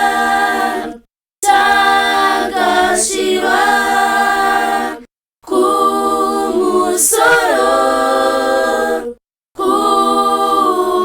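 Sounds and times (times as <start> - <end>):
a cappella choir singing a hymn: 0.0 - 11.0.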